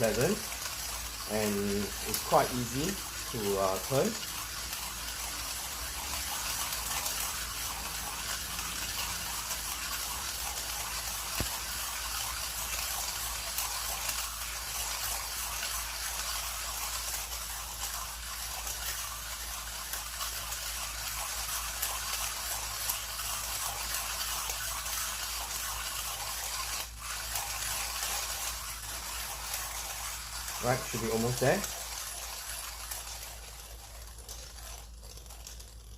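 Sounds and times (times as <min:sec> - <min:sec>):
hand coffee grinder grinding: 0:00.0 - 0:35.9.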